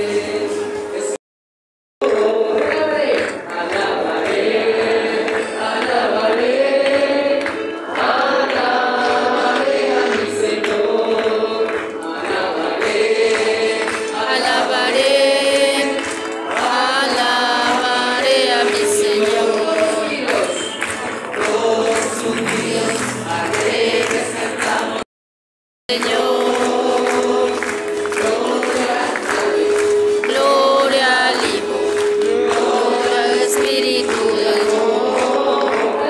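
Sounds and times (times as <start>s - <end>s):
voices singing a hymn: 0.0s - 1.2s, 2.0s - 25.1s, 25.9s - 36.0s.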